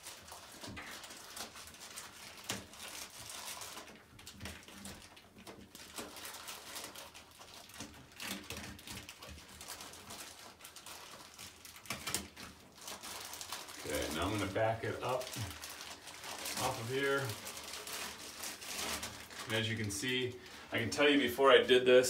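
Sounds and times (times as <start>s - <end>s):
plastic bag rustling and crinkling: 0.0s - 22.0s.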